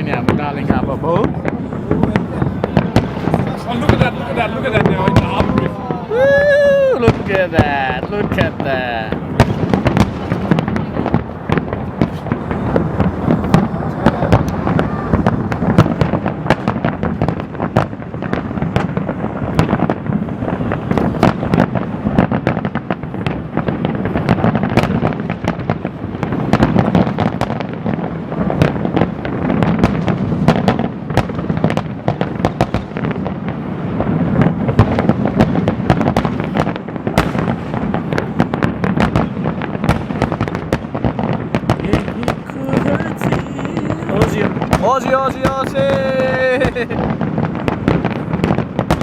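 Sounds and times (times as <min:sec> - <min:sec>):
booming rumble: 0:00.0 - 0:49.0
fireworks crackling and banging: 0:00.0 - 0:49.0.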